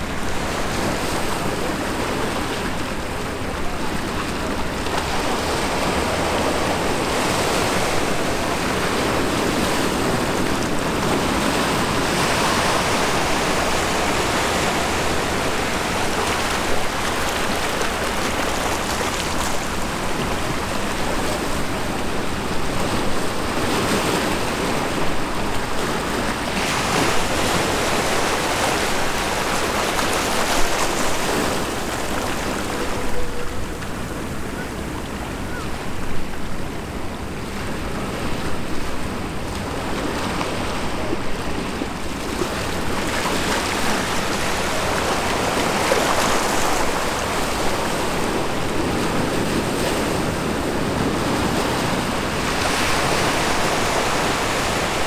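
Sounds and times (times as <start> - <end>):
water moving at shore: 0.0 - 55.0.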